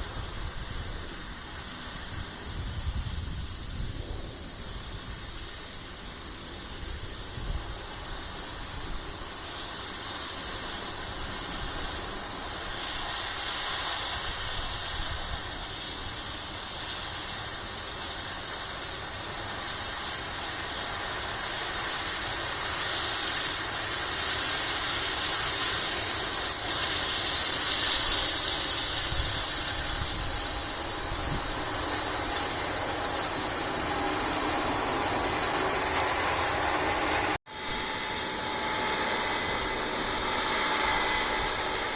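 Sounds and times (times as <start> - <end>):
harvesting machinery running: 0.0 - 41.9.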